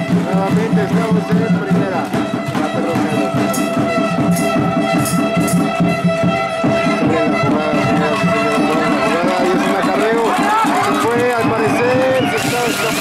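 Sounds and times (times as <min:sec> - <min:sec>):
music with steady beat: 0:00.0 - 0:13.0.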